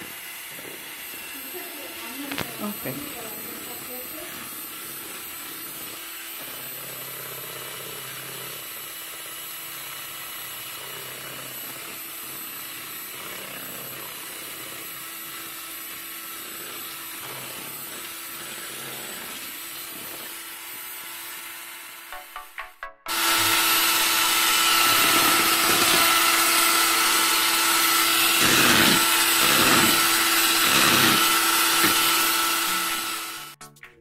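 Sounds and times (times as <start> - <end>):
electric hand mixer running: 0.0 - 22.5, 23.1 - 33.6.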